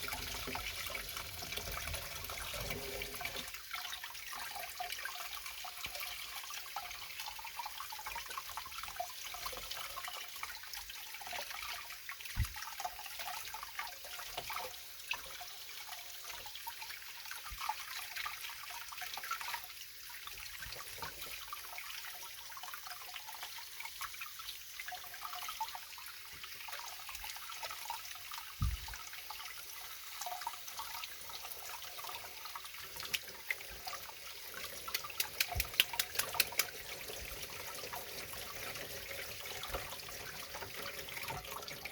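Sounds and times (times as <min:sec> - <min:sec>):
water trickling and splashing: 0:00.0 - 0:41.9.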